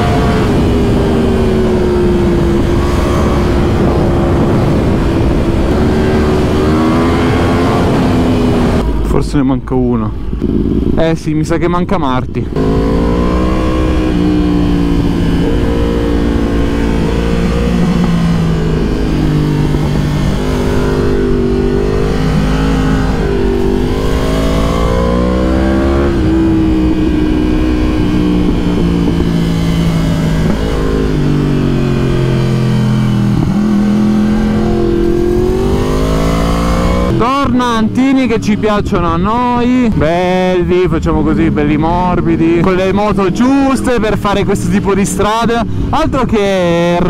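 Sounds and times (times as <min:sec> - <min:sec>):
motorcycle engine revving: 0:00.0 - 0:09.0, 0:10.2 - 0:11.1, 0:12.5 - 0:47.0.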